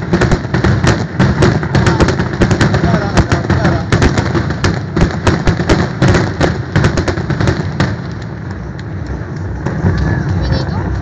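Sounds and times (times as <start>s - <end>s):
firework bangs: 0.0s - 11.0s
steady low rumble: 0.0s - 11.0s.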